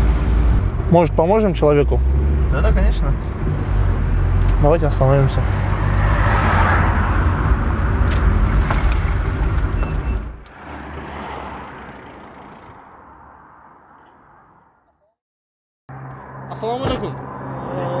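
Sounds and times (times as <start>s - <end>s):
car engine and road rumble: 0.0s - 14.8s, 15.9s - 18.0s.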